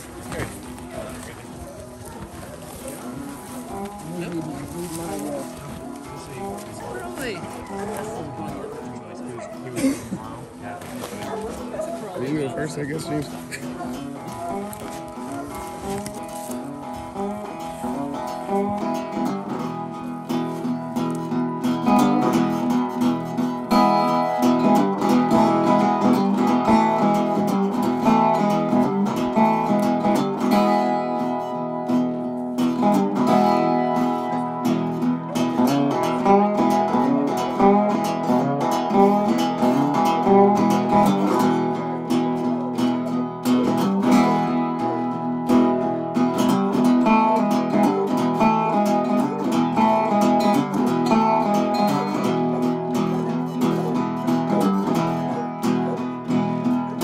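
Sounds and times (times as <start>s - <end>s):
acoustic guitar music: 0.0s - 57.0s.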